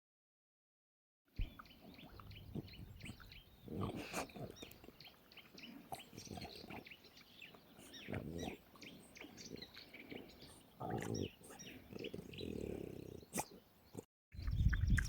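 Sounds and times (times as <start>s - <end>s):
small birds chirping: 1.4s - 15.0s.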